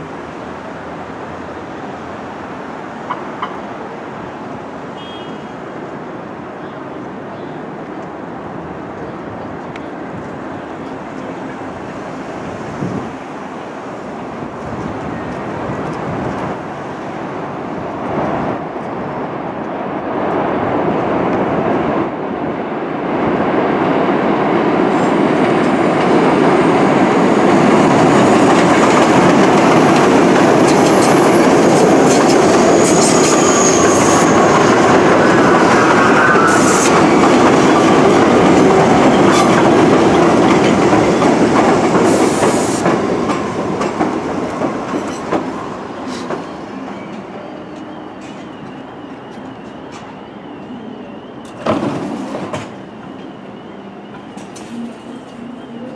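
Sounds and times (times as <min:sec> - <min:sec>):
subway train wheels rumbling on rails: 0:00.0 - 0:55.9.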